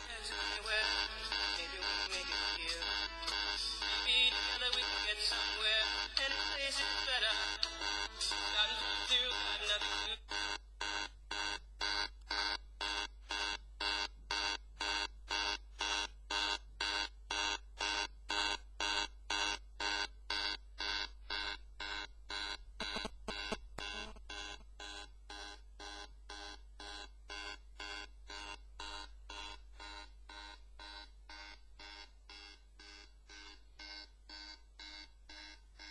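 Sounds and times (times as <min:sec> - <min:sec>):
phone speaker repeating beep: 0:00.0 - 0:14.1, 0:14.8 - 0:35.9.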